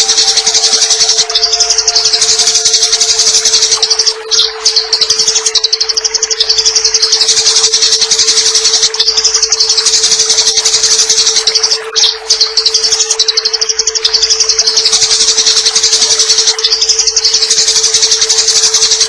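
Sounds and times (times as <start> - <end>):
steady low tone: 0.0 - 17.2
running water hiss: 0.0 - 19.0
sparrows chattering harshly: 0.0 - 19.0.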